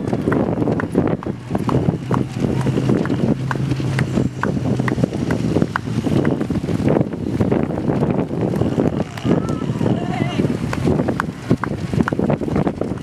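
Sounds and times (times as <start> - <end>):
runners footsteps on pavement: 0.0 - 13.0
wind buffeting microphone: 0.0 - 13.0.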